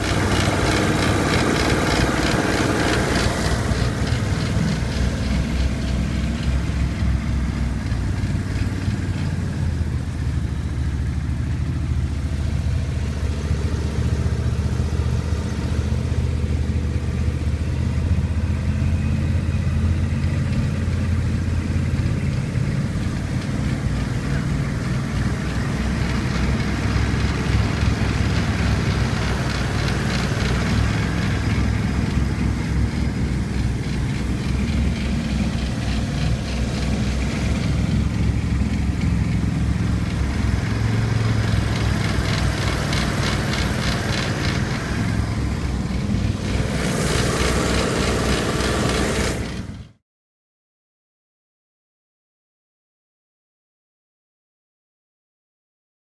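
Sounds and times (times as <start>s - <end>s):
outboard motor running: 0.0s - 50.0s.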